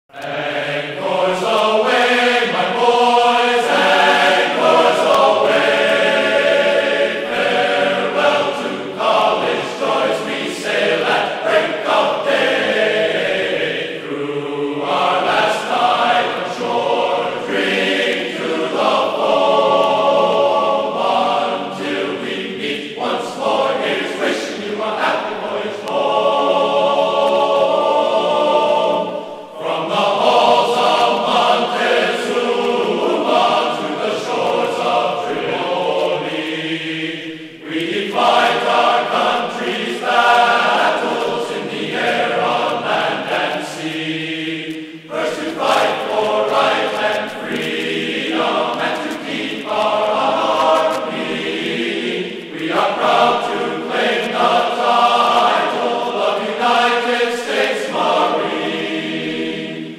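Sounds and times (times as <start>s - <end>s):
choir singing slow chant: 0.1s - 59.9s.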